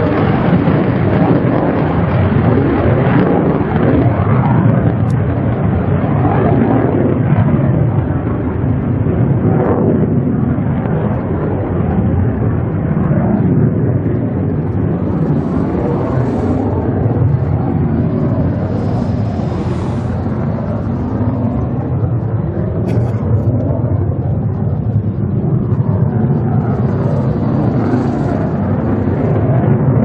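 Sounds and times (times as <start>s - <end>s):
fighter jet engine roaring: 0.0s - 30.0s.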